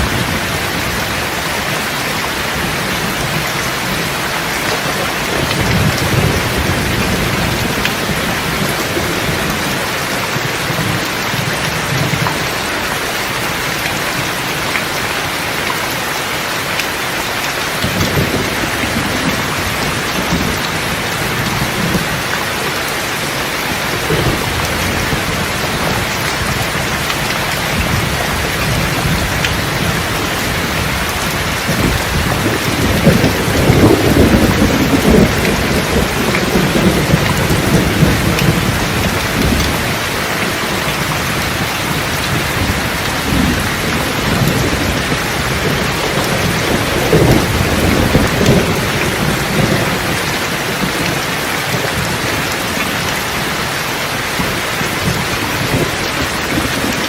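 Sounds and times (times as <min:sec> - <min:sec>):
thunder rolling: 0:00.0 - 0:12.6, 0:17.7 - 0:53.5
heavy rain pattering: 0:00.0 - 0:57.0.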